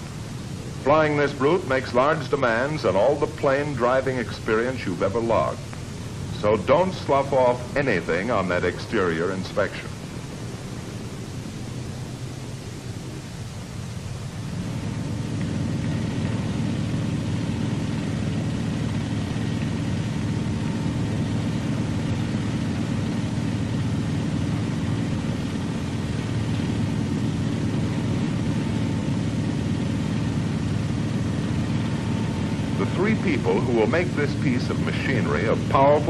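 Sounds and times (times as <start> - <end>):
hissing wash: 0.0 - 36.0
jet engine rumble: 0.0 - 36.0.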